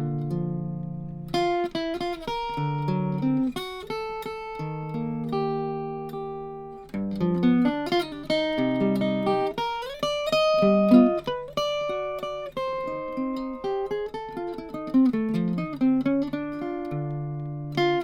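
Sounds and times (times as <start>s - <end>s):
acoustic jazz guitar chords: 0.0s - 18.0s.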